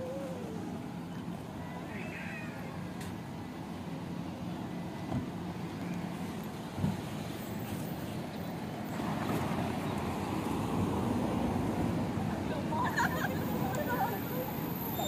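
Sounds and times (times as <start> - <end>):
cars idling and pulling through: 0.0 - 15.0.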